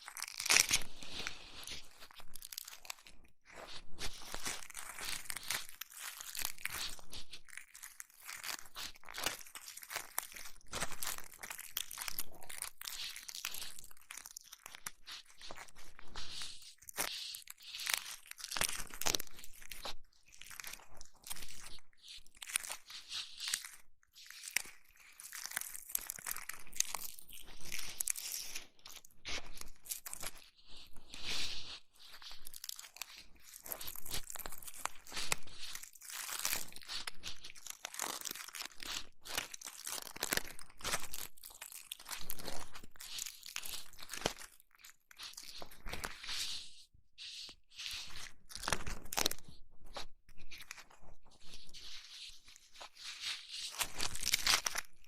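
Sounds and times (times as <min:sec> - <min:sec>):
rubbing and scratching on microphone: 0:00.0 - 0:55.0.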